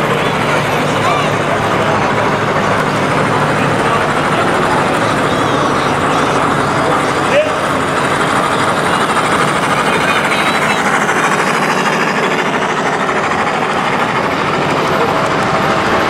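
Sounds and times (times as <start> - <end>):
model train wheels clattering: 1.8 - 16.0.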